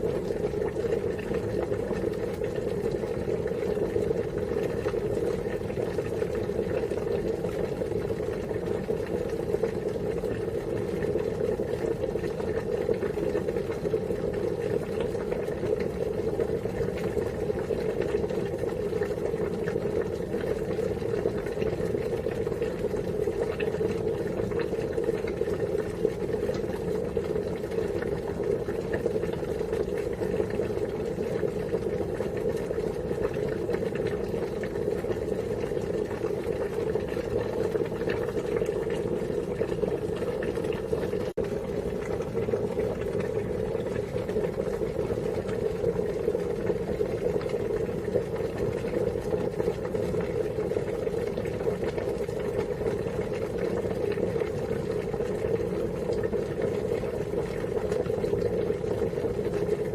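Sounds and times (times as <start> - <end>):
water boiling hard in a pot: 0.0 - 59.9.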